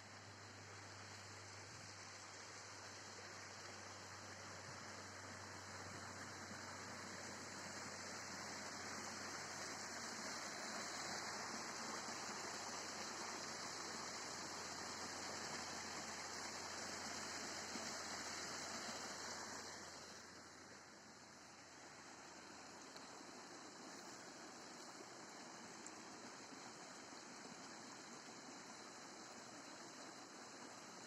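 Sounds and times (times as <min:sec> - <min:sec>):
rushing water: 0:00.4 - 0:31.0.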